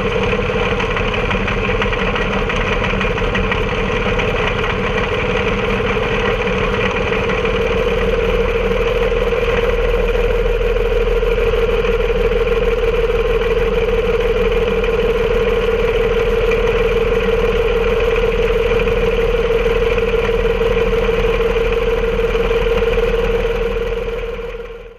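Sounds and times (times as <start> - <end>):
locomotive engine droning: 0.0 - 24.9.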